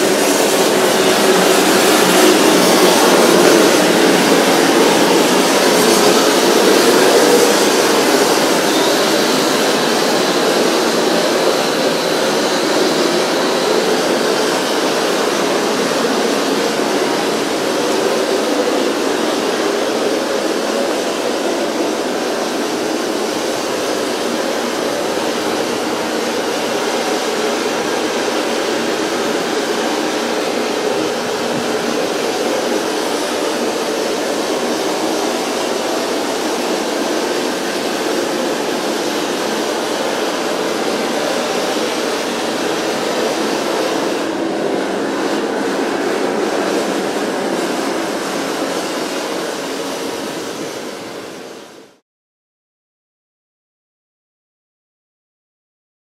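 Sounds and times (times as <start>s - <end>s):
loud steady rushing noise: 0.0s - 52.0s.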